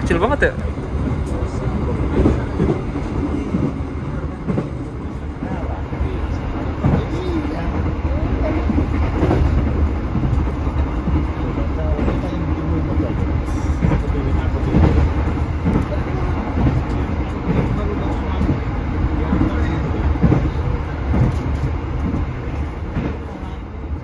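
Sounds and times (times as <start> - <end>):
train carriage rumbling on rails: 0.0 - 24.0.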